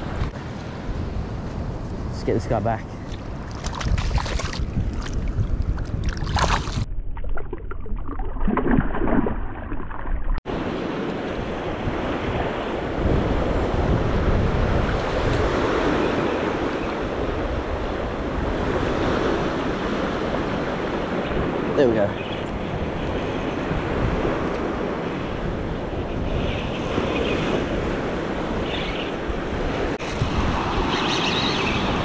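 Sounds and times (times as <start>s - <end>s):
wind on microphone: 0.0s - 9.3s, 10.4s - 32.0s.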